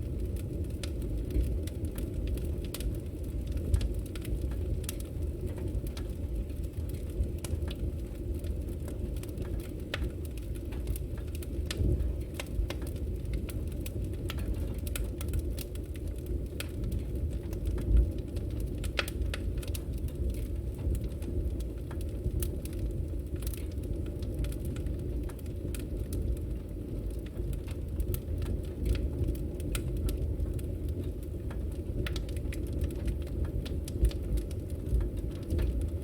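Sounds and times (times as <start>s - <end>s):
fire low rumble: 0.0s - 36.0s
logs crackling and popping: 0.0s - 36.0s.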